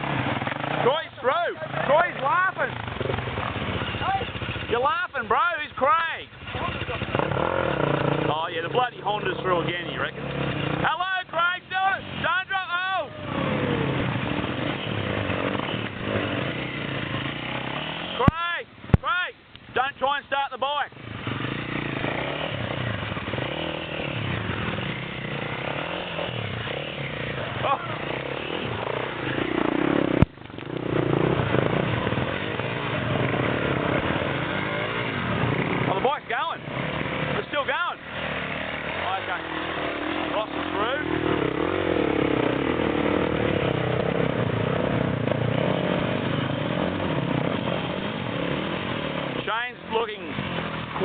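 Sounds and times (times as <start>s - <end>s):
trail bike engine revving: 0.0s - 19.1s, 19.7s - 51.0s.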